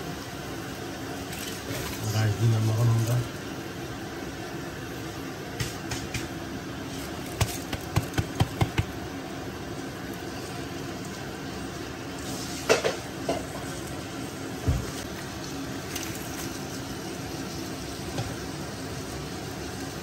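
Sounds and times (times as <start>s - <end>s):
food sizzling in a pot: 0.0s - 20.0s
steady background hum: 0.0s - 20.0s.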